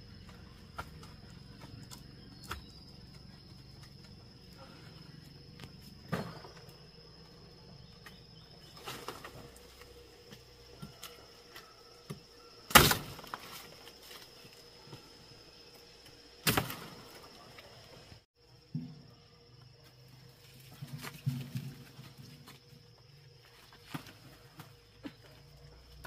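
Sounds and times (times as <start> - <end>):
high-pitched insect call: 0.0 - 26.0.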